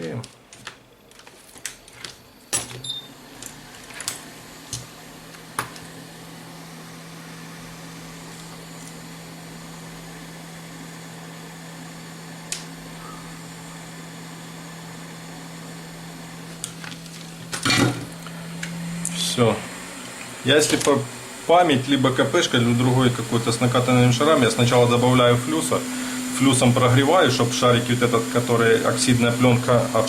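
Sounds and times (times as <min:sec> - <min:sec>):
hot-air station blowing with hum: 0:00.0 - 0:30.0.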